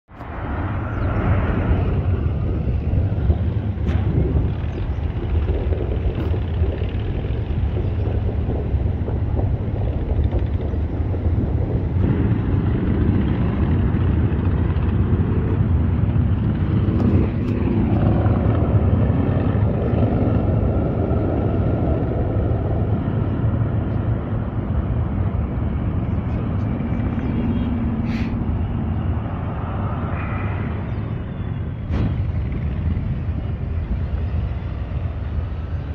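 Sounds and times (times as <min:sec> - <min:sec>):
vehicle engines rumbling: 0:00.1 - 0:35.9
pitched engine tones: 0:00.3 - 0:35.9.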